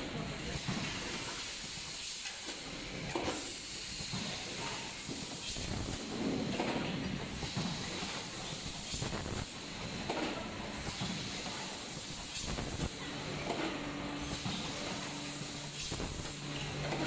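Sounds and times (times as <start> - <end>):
packaging machine hissing: 0.4 - 6.5, 7.2 - 17.0.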